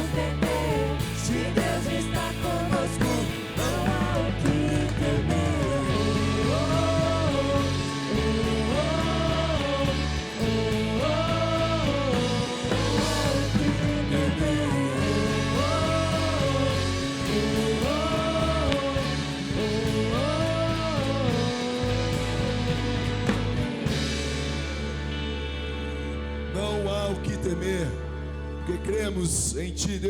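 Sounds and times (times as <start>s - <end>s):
worship band playing: 0.0s - 30.0s.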